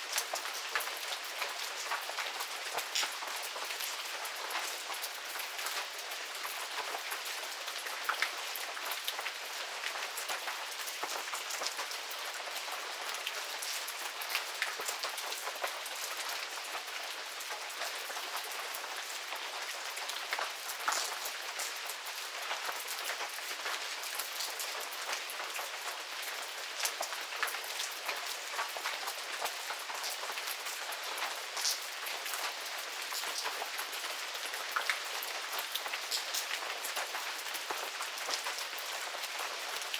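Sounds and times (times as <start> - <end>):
raindrop ticks and patters: 0.0 - 39.9.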